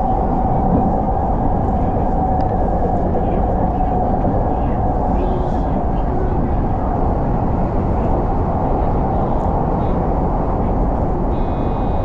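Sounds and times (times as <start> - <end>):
high steady whining tones: 0.0 - 12.0
train wheels rumbling on rail: 0.0 - 12.0.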